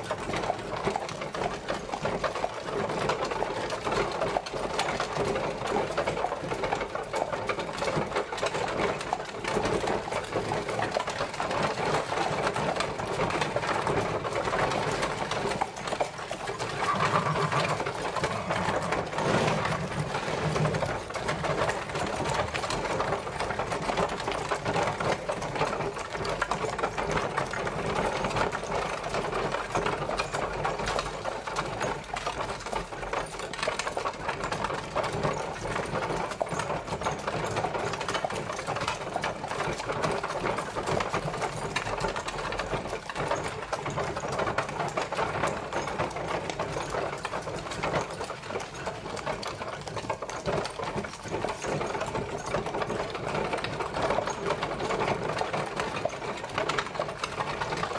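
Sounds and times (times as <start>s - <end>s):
carriage wheels rattling: 0.0s - 57.9s.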